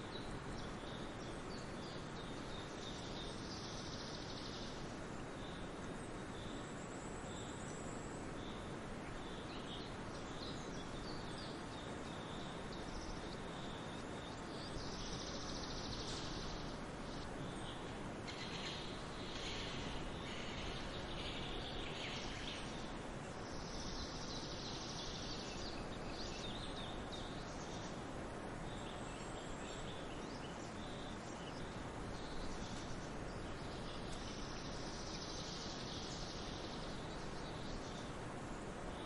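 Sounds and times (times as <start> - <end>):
background hiss: 0.0 - 39.0
small birds chirping and trilling: 0.0 - 39.0.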